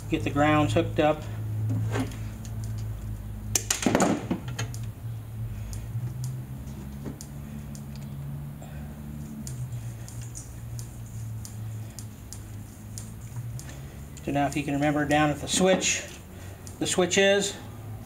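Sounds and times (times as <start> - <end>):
wires clicking and ticking: 1.5 - 17.6.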